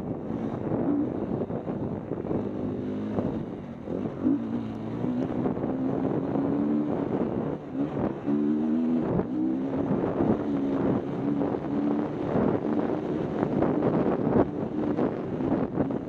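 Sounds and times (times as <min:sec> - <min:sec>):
wind buffeting microphone: 0:00.0 - 0:16.0
motorcycle engine revving under load: 0:00.3 - 0:16.0.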